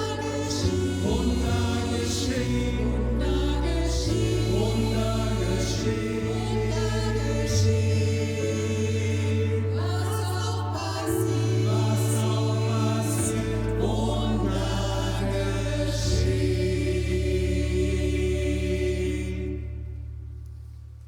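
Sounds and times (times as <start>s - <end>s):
choir singing: 0.0s - 20.2s
deep held notes: 0.0s - 21.0s.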